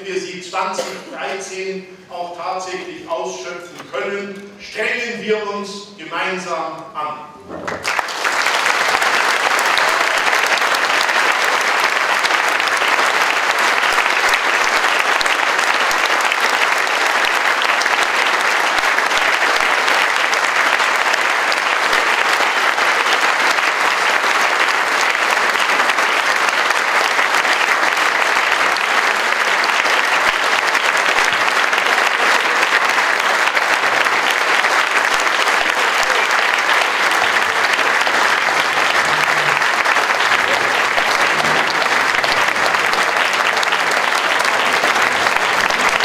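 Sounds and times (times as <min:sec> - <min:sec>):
large audience applauding: 0:07.5 - 0:46.0.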